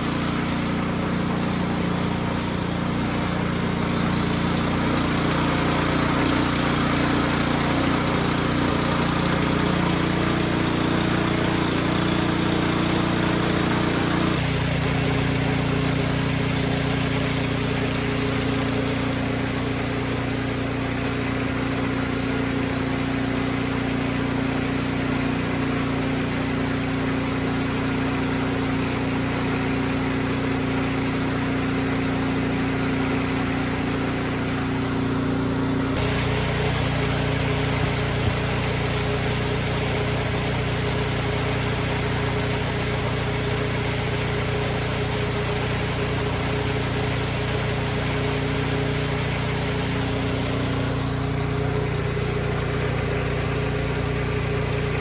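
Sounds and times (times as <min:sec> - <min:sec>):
snow blower engine running: 0:00.0 - 0:55.0.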